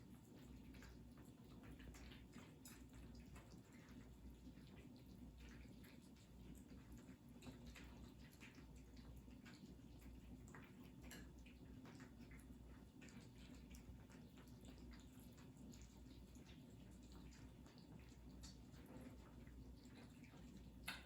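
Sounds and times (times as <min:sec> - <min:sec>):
cats chewing: 0:00.0 - 0:21.0
low steady hum: 0:00.0 - 0:21.0.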